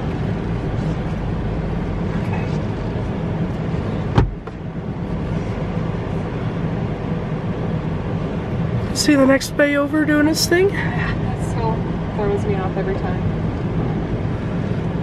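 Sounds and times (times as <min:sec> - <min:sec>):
car cabin hum and rush: 0:00.0 - 0:15.0.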